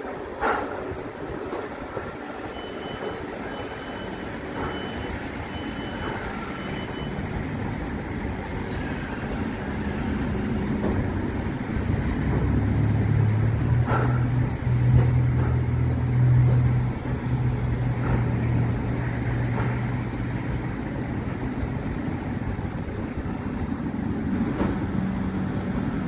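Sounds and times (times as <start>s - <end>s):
train low hum: 0.0s - 26.0s.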